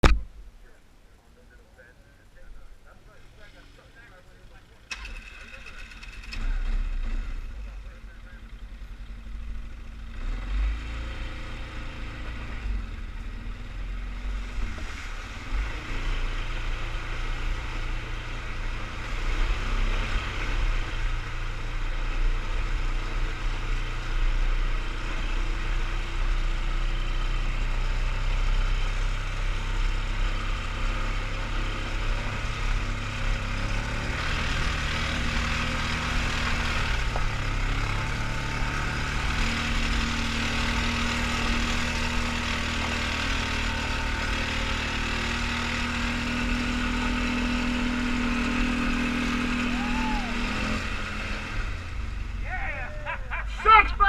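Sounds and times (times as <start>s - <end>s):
atv engine running: 2.3s - 54.0s.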